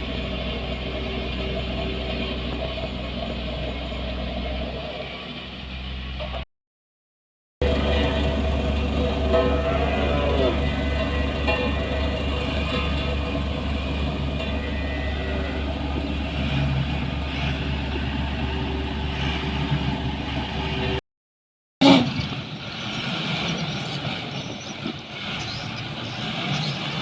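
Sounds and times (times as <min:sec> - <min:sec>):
heavy diesel machinery humming: 0:00.0 - 0:06.4, 0:07.6 - 0:21.0, 0:21.8 - 0:27.0.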